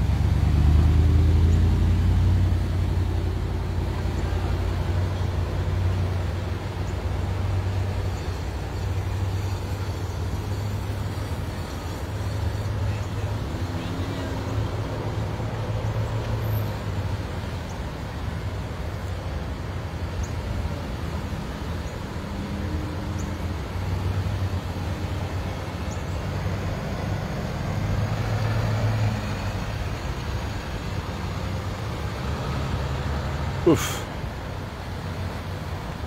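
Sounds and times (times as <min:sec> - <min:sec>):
vehicles driving past: 0:00.0 - 0:36.0.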